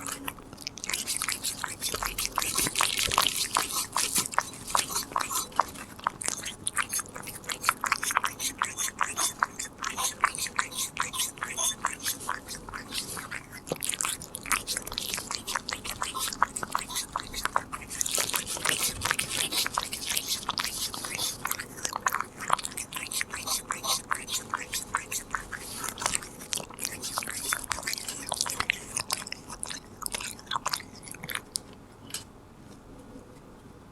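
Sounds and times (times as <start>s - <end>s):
cat chewing a treat: 0.0s - 32.2s.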